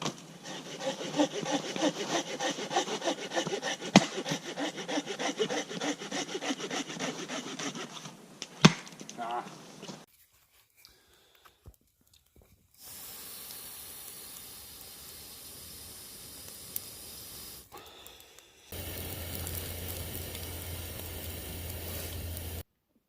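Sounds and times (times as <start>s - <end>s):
campfire hissing and crackling: 0.1s - 8.6s, 11.0s - 22.7s.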